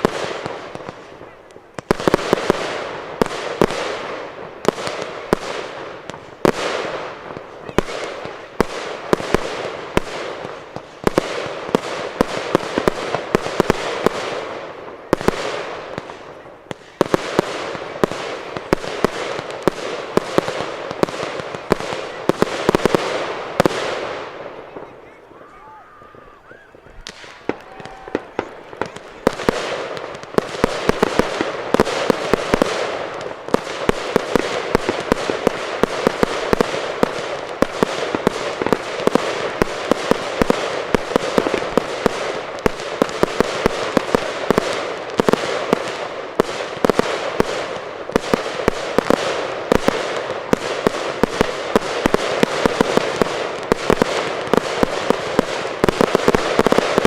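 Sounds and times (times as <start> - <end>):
firework bangs: 0.0 - 57.0
fireworks crackling: 0.0 - 57.0.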